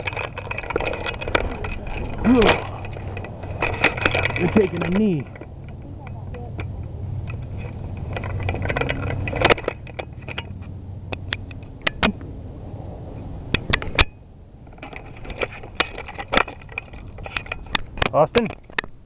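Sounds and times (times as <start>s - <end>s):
gear and brush rustling: 0.0s - 12.2s, 13.1s - 18.8s
low rumble: 0.0s - 17.2s.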